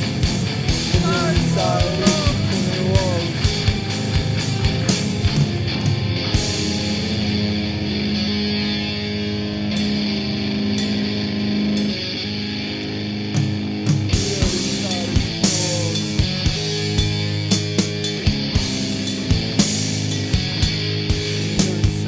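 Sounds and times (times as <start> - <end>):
guitar ringing chords: 0.0 - 21.5.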